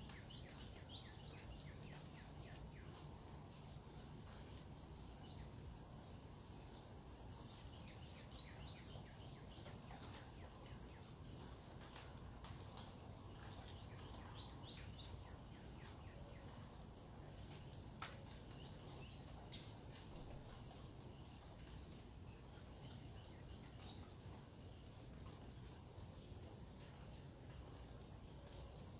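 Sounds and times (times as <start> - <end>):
low background hum: 0.0 - 28.9.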